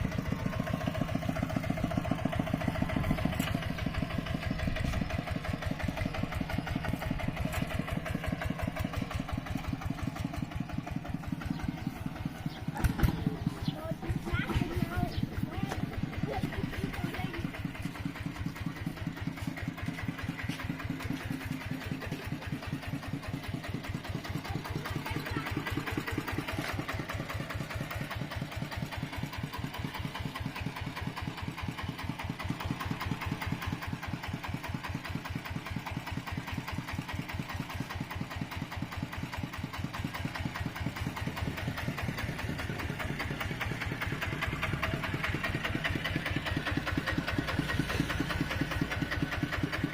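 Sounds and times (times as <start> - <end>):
tractor engine chugging: 0.0 - 49.9.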